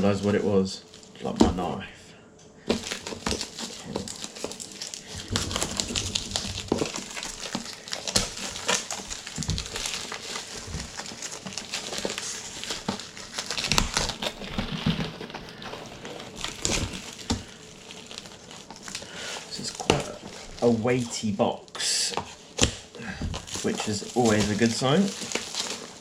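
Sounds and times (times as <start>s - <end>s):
packaging crinkling and rustling: 0.0s - 1.8s, 2.6s - 26.0s.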